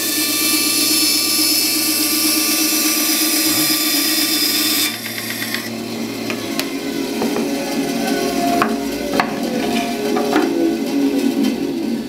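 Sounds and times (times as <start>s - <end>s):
bandsaw cutting plywood: 0.0s - 11.8s
bandsaw running: 0.0s - 12.0s.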